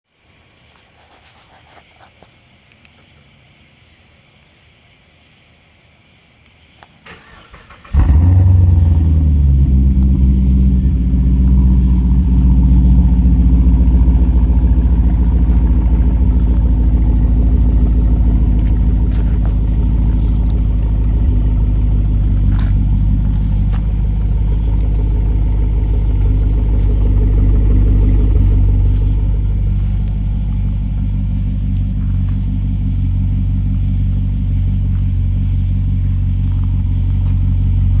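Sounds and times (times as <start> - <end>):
car engine starting: 7.0 - 38.0
car engine idling: 7.2 - 38.0.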